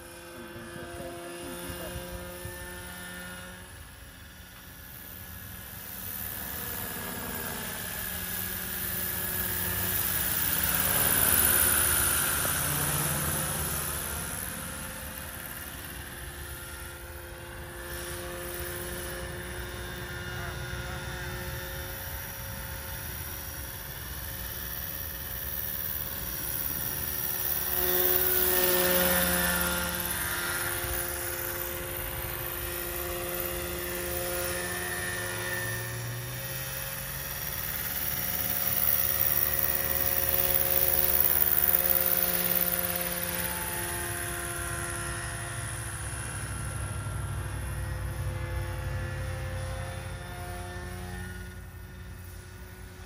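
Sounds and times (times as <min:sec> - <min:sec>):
model helicopter rotor whine: 0:00.0 - 0:53.0.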